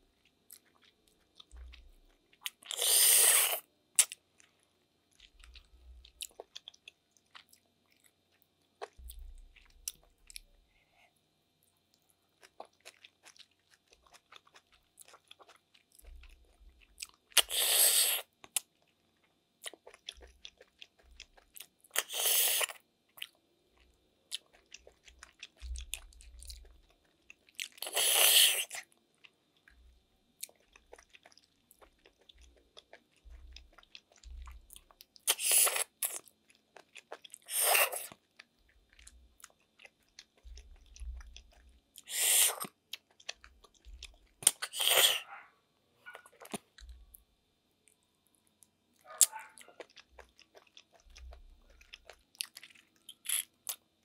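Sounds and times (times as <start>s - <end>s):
soft chewing: 0.0s - 54.0s.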